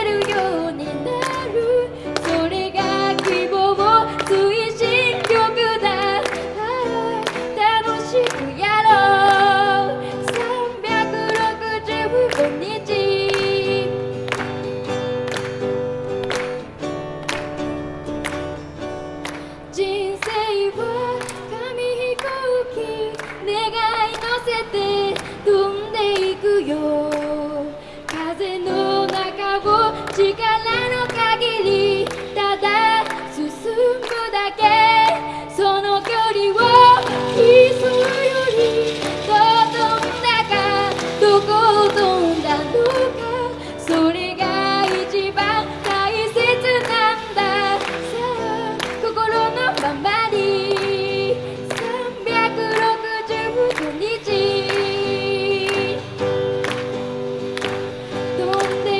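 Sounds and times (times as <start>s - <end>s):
girl singing a pop ballad: 0.0s - 16.4s, 19.2s - 58.9s
acoustic guitar strumming: 0.0s - 58.9s.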